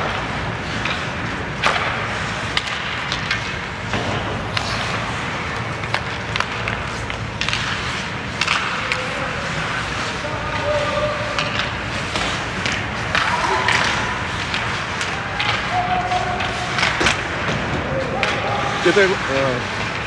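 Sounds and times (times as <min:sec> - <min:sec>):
hockey sticks and puck clacking: 0:00.0 - 0:20.0
skate blades scraping ice: 0:00.0 - 0:20.0.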